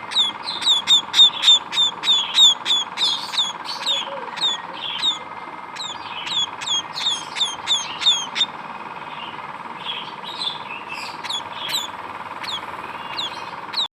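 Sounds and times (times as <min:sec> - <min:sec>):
small bird chirping: 0:00.0 - 0:13.9.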